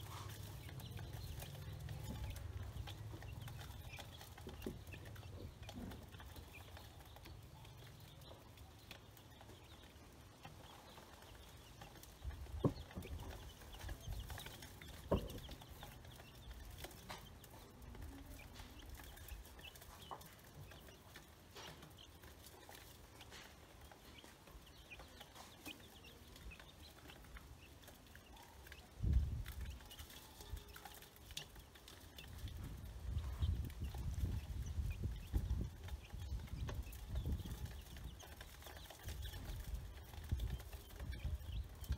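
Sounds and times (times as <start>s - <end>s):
beaks pecking in metal bowl: 0.0s - 41.9s
chicks and ducklings peeping: 0.0s - 41.9s.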